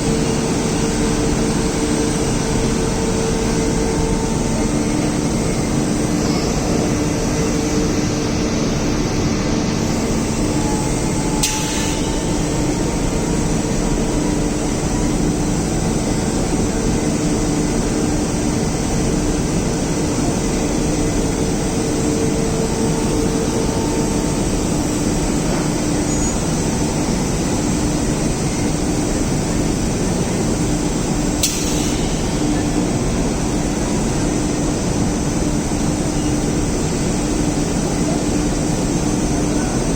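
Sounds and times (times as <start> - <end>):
machinery humming: 0.0 - 39.9.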